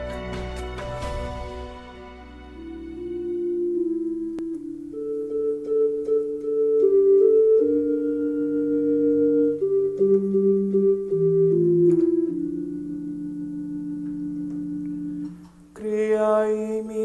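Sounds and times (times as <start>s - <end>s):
electronic keyboard organ chords: 0.0s - 17.0s.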